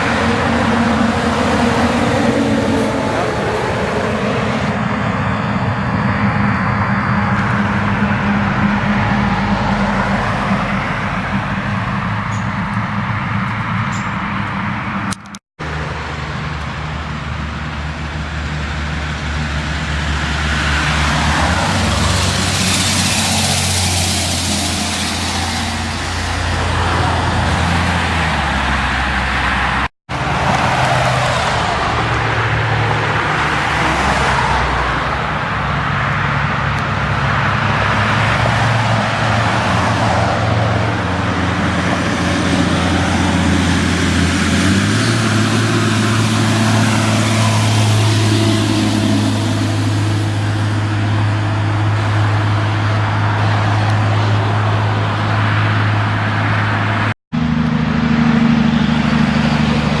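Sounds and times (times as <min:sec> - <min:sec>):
heavy diesel trucks running: 0:00.0 - 1:00.0
traffic noise: 0:00.0 - 1:00.0.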